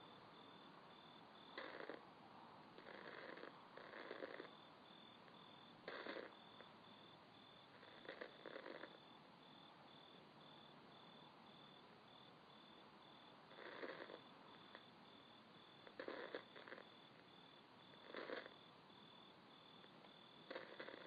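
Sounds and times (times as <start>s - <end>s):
cricket chirping: 0.0s - 2.1s, 2.8s - 21.0s
breathy hiss-like noise: 0.0s - 21.0s.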